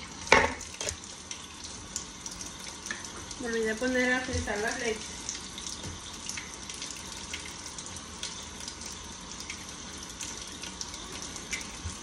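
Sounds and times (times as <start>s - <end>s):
faucet running into a metal sink: 0.0s - 12.0s.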